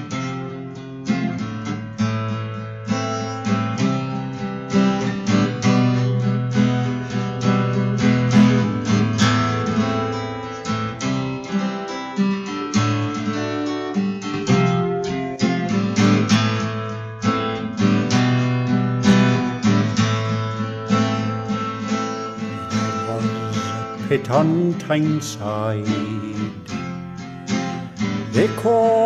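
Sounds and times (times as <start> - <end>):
acoustic guitar strumming chords: 0.0 - 29.0.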